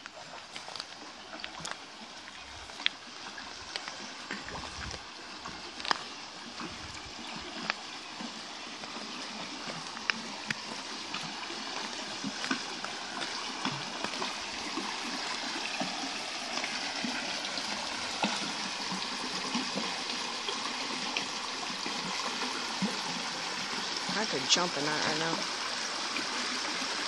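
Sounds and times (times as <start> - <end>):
creek flowing over rocks: 0.0 - 27.0.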